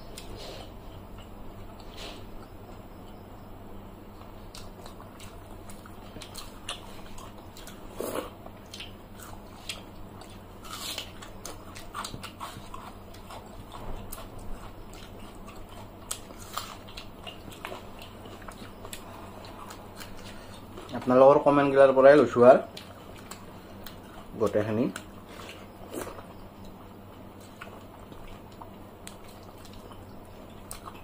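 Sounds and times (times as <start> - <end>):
faint low hum: 0.0 - 31.0
people chewing food: 0.0 - 31.0
food crunching: 4.0 - 31.0.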